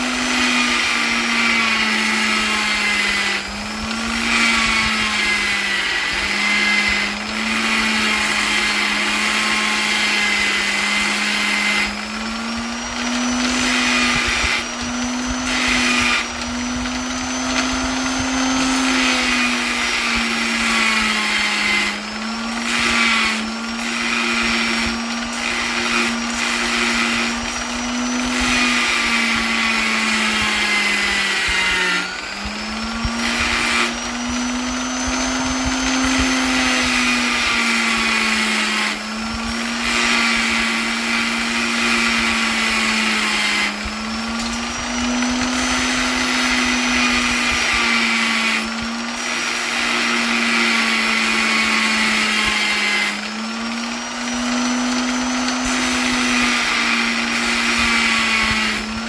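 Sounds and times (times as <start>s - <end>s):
electric polisher motor whining: 0.0s - 59.0s.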